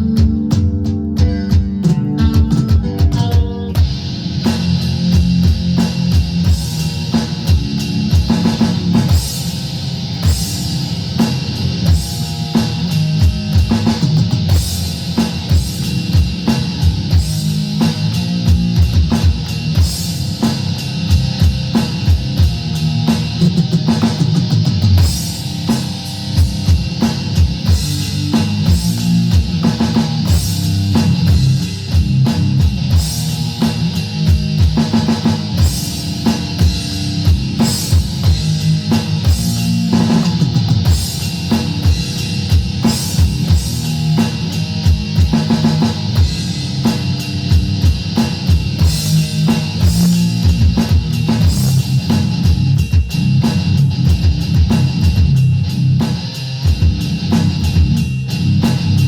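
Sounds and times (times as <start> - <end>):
heavy electric guitar: 0.0 - 59.0
rapid kick and snare drum hits: 0.0 - 59.0
rock band playing: 0.0 - 59.0.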